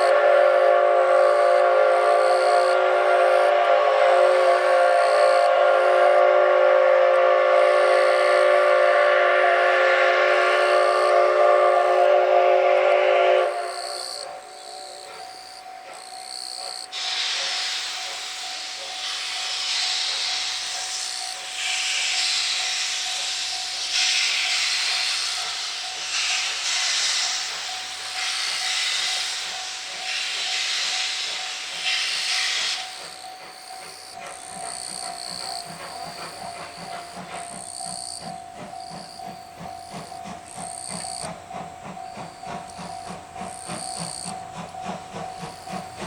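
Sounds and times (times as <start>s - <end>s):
steam locomotive hissing steam: 0.0s - 46.0s.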